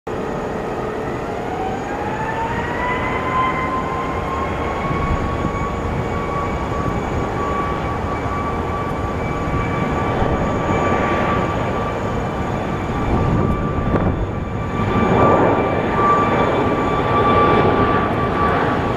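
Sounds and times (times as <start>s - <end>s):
jet engines spooling up: 0.1s - 18.9s.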